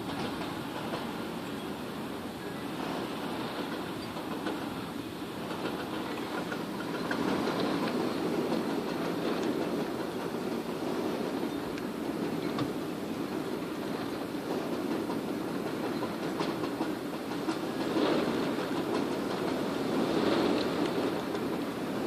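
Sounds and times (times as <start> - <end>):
heavy rain pouring: 0.0 - 15.5, 16.5 - 22.0.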